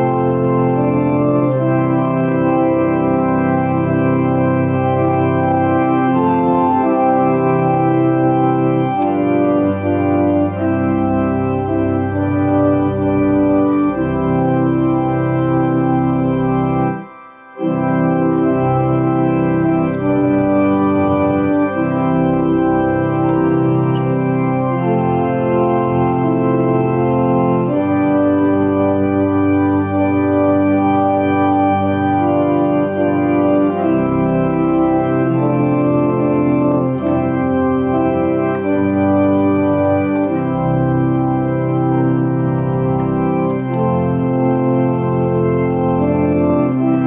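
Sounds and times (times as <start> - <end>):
electronic organ playing hymn: 0.0 - 47.0.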